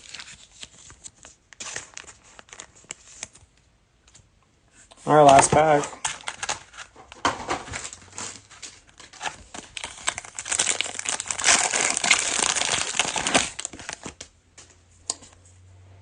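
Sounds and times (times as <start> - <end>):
plastic wrapper crinkling: 0.0 - 4.2, 5.0 - 14.3.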